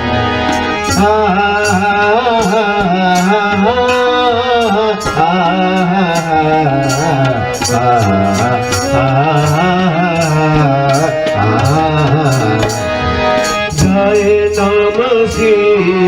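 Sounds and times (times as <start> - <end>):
devotional music melody: 0.0 - 16.0
percussion beat: 0.4 - 16.0.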